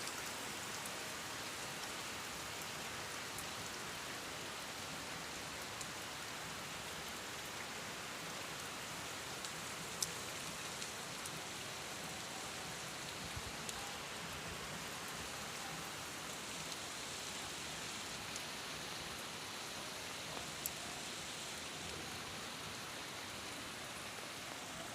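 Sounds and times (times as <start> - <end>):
rain hissing on surfaces: 0.0 - 24.9.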